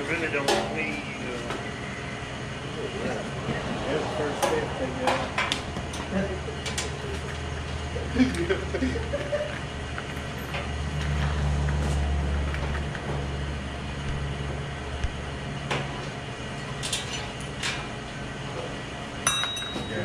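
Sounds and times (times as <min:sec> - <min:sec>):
low mechanical rumble: 0:00.0 - 0:20.0.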